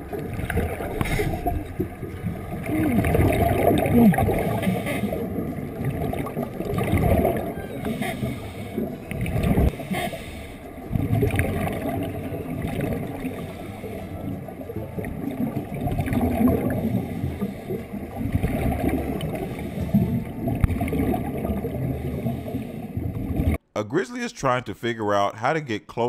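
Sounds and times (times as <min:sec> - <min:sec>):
underwater bubbles gurgling: 0:00.0 - 0:23.6.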